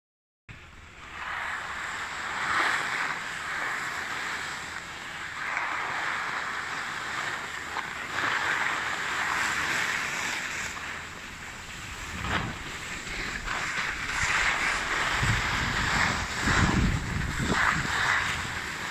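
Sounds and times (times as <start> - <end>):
wind noise on microphone: 0.5 - 18.9
skis sliding over packed snow: 0.6 - 18.9.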